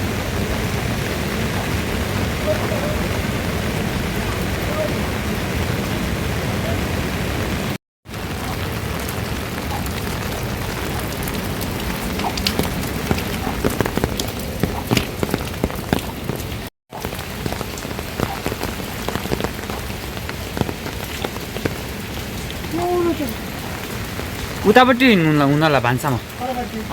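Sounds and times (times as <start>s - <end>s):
rain falling: 0.0s - 26.9s.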